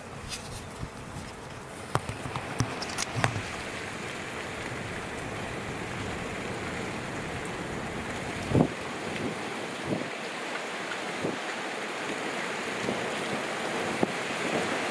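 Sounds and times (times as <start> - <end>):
rain: 0.0 - 14.9
wind: 0.0 - 14.9.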